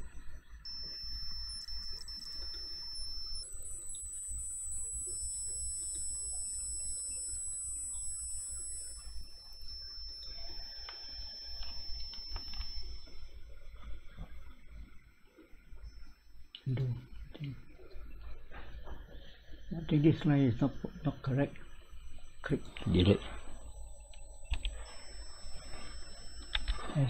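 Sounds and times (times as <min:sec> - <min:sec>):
high-pitched electronic whine: 0:00.0 - 0:27.0
low hum: 0:00.0 - 0:27.0.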